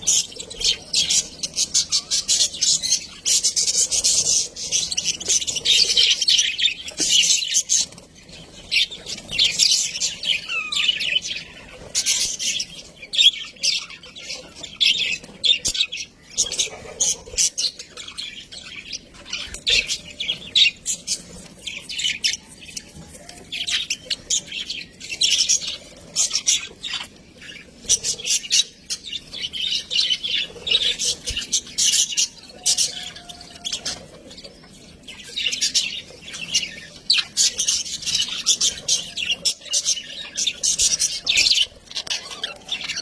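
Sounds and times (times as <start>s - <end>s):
budgerigars chattering: 8.5s - 43.0s.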